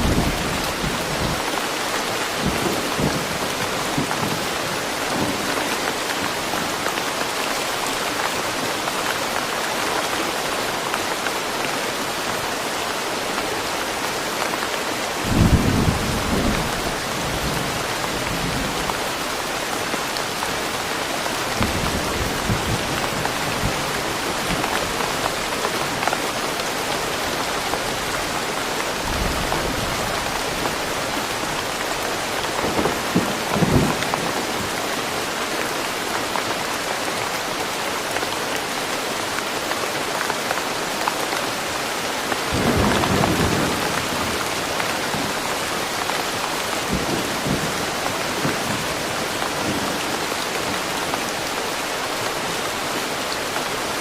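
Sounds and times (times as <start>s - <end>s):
dense rain in a forest: 0.0s - 54.0s.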